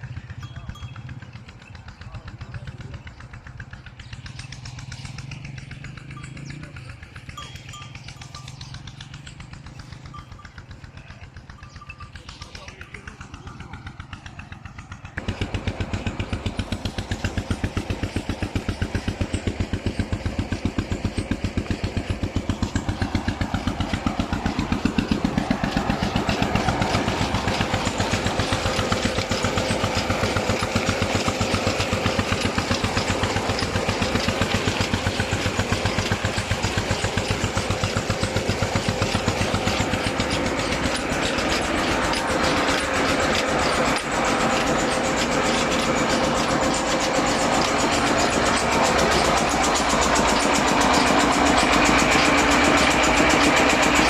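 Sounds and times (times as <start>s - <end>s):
engine chugging: 0.0s - 54.0s.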